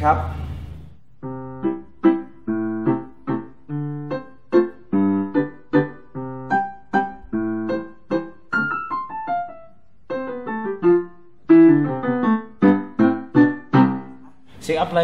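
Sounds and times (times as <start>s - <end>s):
piano chords: 0.0s - 15.0s
piano notes stepping downward: 0.0s - 15.0s.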